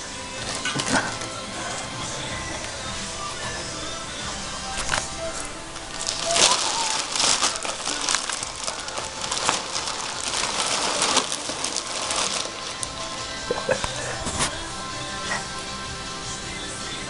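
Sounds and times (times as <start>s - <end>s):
bag rustling and crinkling: 0.0s - 14.7s.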